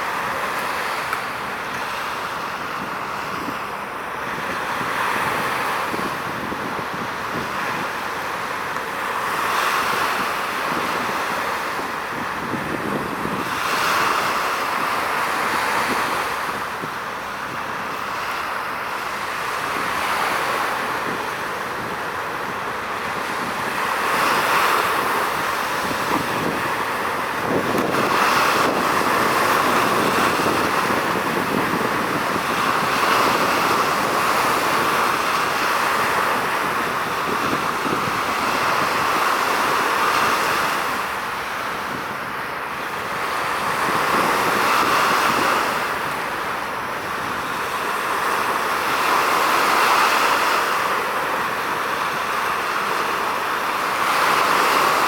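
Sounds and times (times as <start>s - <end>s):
waves washing against shore: 0.0s - 55.0s
wind: 0.0s - 55.0s.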